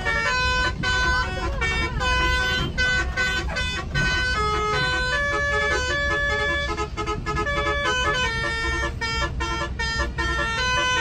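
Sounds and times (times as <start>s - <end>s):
bus engine and road rumble: 0.0s - 11.0s
musical air horn playing tune: 0.0s - 11.0s.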